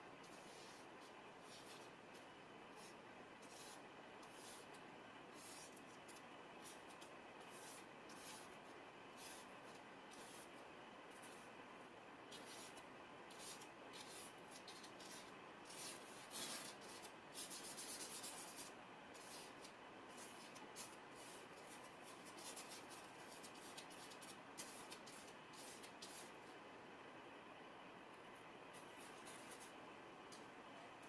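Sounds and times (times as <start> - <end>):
brush scratching on paper: 0.2 - 2.0, 2.7 - 11.5, 12.3 - 26.4, 28.8 - 29.7.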